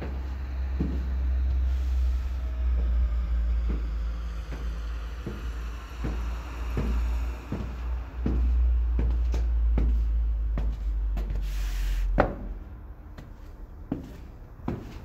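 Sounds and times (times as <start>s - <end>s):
high-heel footsteps on tiles: 0.0s - 2.1s, 2.7s - 15.0s
steady low rumble: 0.0s - 15.0s.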